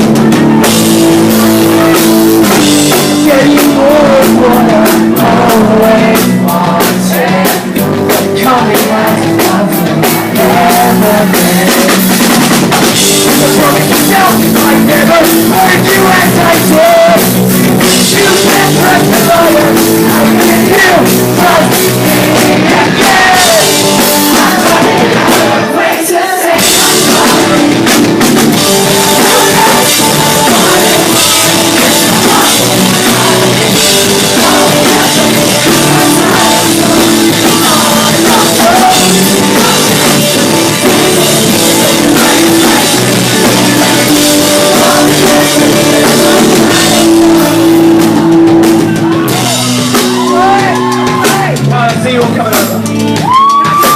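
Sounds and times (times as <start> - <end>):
drums: 0.0 - 53.9
rock band playing: 0.0 - 53.9
person singing: 1.5 - 12.3, 13.2 - 51.8.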